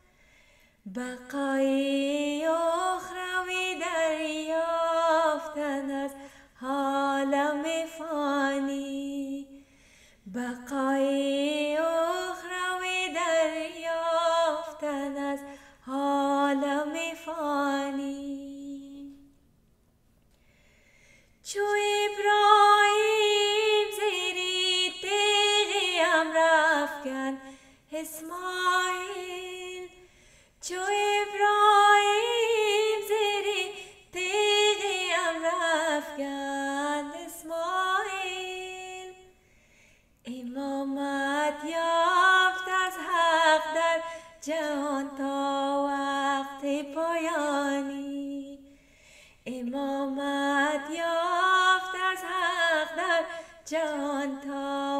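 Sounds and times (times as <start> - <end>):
woman singing unaccompanied: 0.9 - 9.6, 10.3 - 19.3, 21.4 - 30.0, 30.6 - 39.3, 40.2 - 48.7, 49.4 - 54.9.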